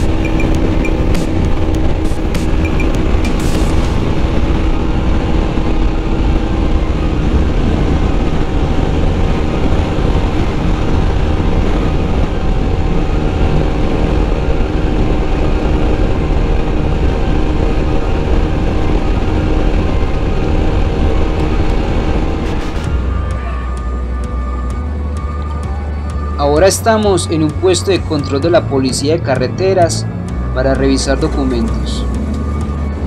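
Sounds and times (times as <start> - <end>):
motorcycle engine: 0.0 - 33.0
wind rumble on microphone: 0.0 - 33.0.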